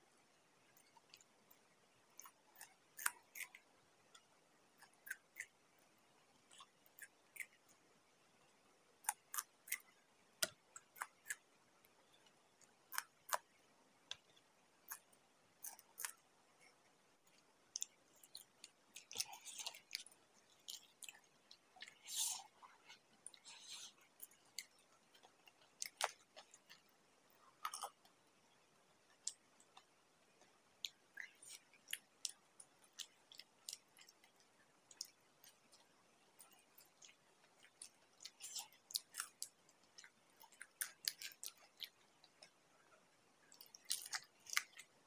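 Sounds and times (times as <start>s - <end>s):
crunching and chewing: 0.8s - 7.8s, 9.0s - 28.2s, 29.1s - 42.6s, 43.4s - 45.0s.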